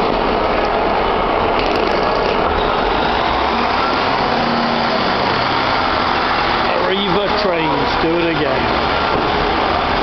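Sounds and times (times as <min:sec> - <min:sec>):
diesel train engine idling: 0:00.0 - 0:10.0.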